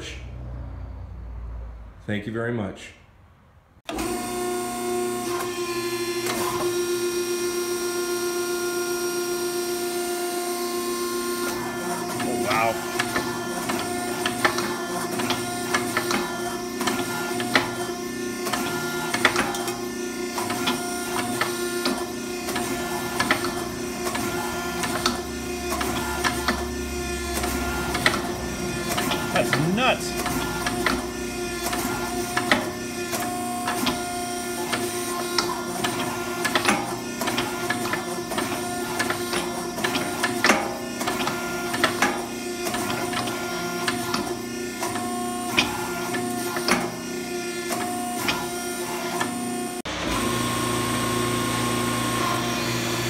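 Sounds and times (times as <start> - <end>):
hydraulic power pack whining: 3.8 - 53.0.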